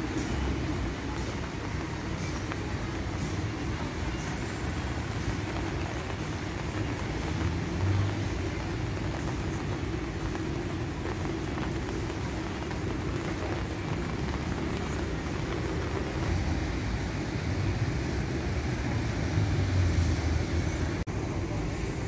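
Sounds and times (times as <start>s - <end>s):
car engines running: 0.0s - 22.0s
tyres hissing on wet road: 0.0s - 22.0s.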